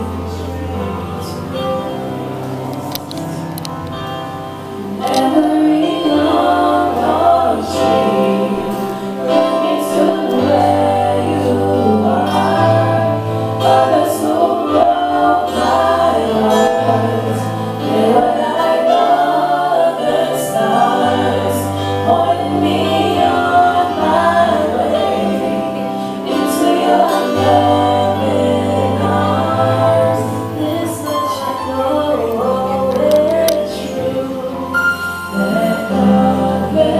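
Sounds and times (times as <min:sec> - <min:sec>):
group of voices singing gospel: 0:00.0 - 0:36.9
held bass notes: 0:00.0 - 0:36.9
keyboard accompaniment: 0:00.0 - 0:36.9.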